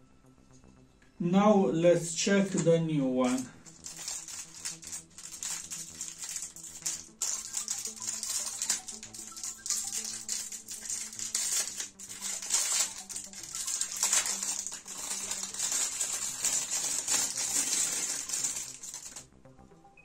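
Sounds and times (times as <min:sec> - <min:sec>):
plastic bag crinkling: 0:02.5 - 0:19.2.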